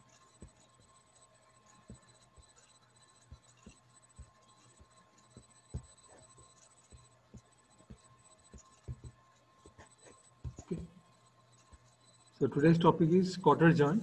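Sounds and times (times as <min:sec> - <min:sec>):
low electrical hum: 0:00.0 - 0:14.0
thin high whine: 0:00.0 - 0:14.0.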